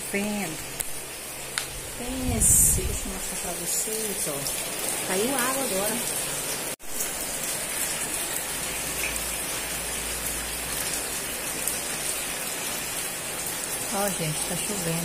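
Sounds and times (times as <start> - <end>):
rain falling on pavement and pool: 0.0 - 15.0.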